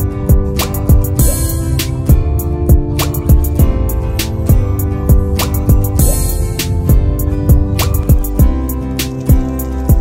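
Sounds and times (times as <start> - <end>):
background music with guitar: 0.0 - 10.0.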